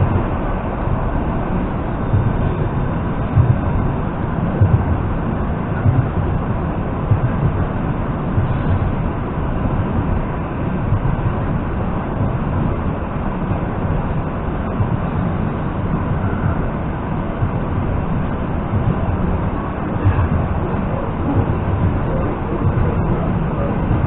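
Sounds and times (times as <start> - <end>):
electric train running noise: 0.0 - 24.0.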